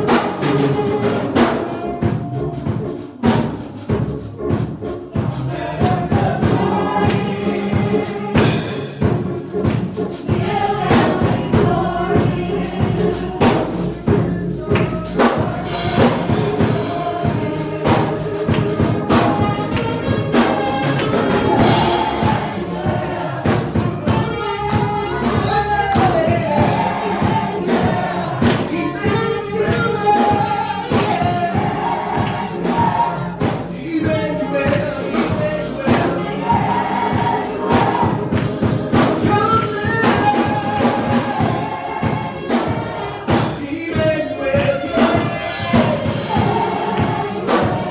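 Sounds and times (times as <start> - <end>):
band accompaniment with drums: 0.0 - 47.9
gospel choir singing: 0.0 - 47.9.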